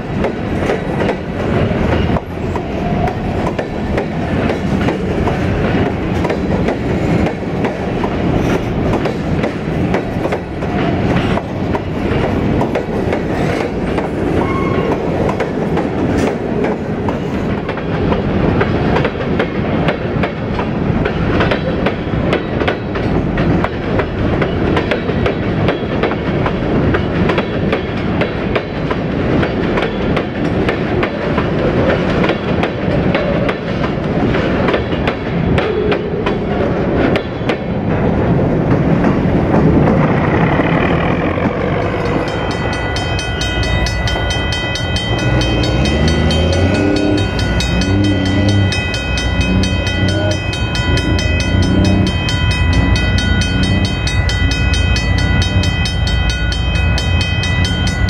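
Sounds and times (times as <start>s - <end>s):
heavy train rumble: 0.0s - 58.0s
train wheels clacking on rail joints: 0.0s - 58.0s.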